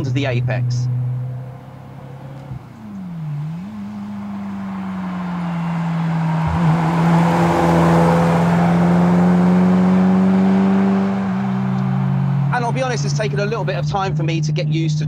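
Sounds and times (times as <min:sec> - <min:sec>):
race car engine passing by: 0:00.9 - 0:13.9.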